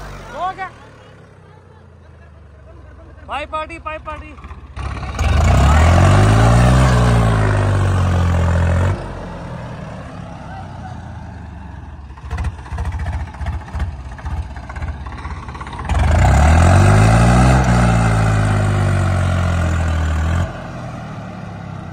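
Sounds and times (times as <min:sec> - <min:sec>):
tractor diesel engine under load: 0:00.0 - 0:21.9.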